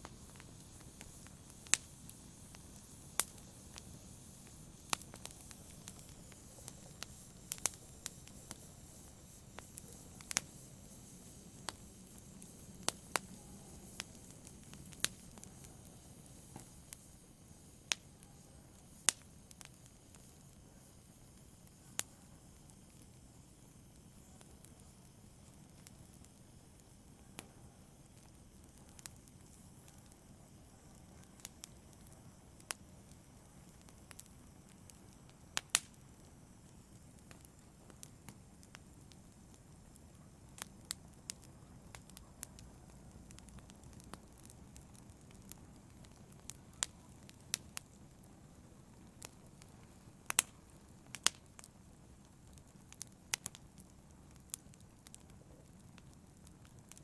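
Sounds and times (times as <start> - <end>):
fire crackles and pops: 0.0 - 57.0
flames hissing: 0.0 - 57.0.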